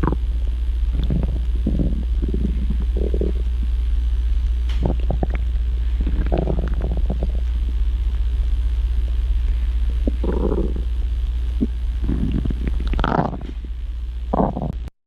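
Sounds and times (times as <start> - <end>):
stomach growling: 0.0 - 4.0, 4.6 - 8.2, 9.8 - 14.9
constant low hum: 0.0 - 14.9.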